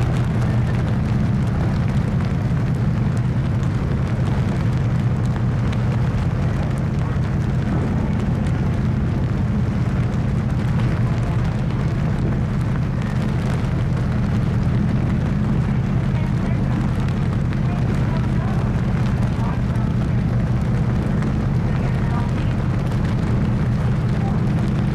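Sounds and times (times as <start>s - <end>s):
ferry engines droning: 0.0s - 24.9s
wind on microphone: 0.0s - 24.9s.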